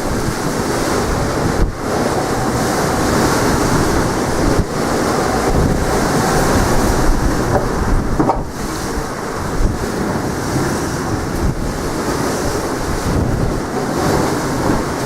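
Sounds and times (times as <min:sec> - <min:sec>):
sea surf: 0:00.0 - 0:15.0
wind buffeting microphone: 0:00.0 - 0:15.0.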